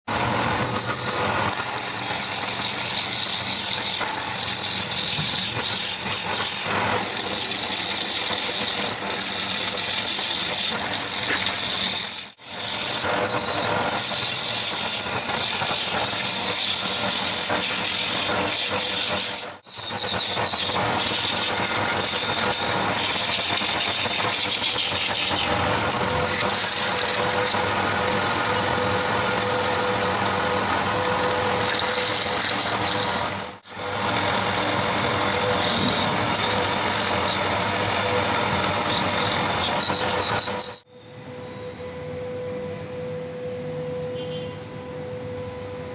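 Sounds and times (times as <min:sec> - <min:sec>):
woodturning lathe running: 0:00.1 - 0:40.9.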